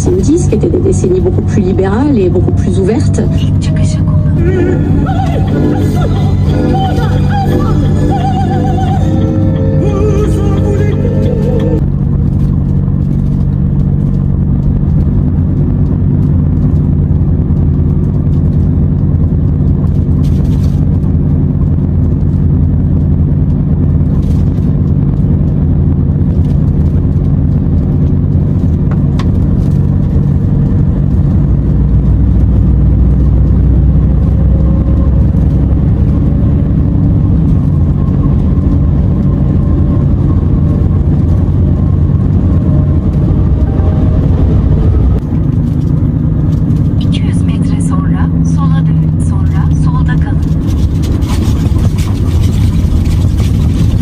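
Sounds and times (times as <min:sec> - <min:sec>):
road and tyre rumble: 0:00.0 - 0:54.0
truck diesel engine running: 0:00.0 - 0:54.0.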